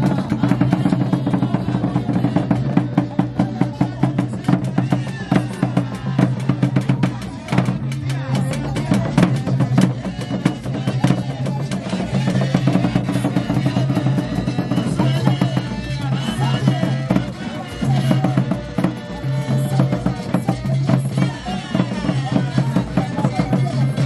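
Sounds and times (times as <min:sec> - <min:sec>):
drum ensemble playing: 0:00.0 - 0:24.0.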